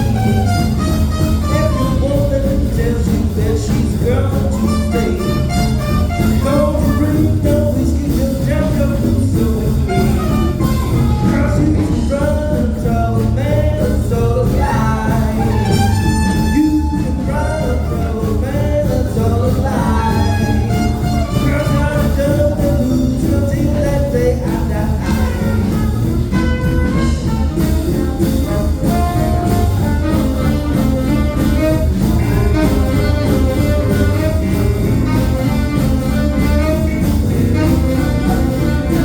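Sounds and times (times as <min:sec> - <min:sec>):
jazz band playing: 0:00.0 - 0:39.0.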